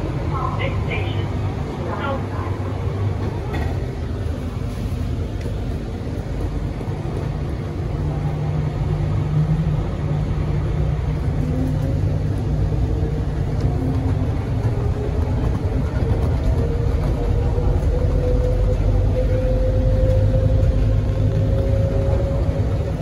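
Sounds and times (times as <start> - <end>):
tyres rumbling on guideway: 0.0 - 23.0.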